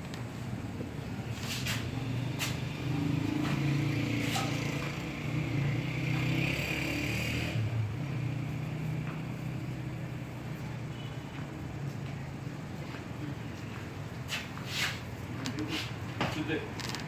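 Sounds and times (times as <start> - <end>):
vehicle engine humming: 0.0 - 14.2.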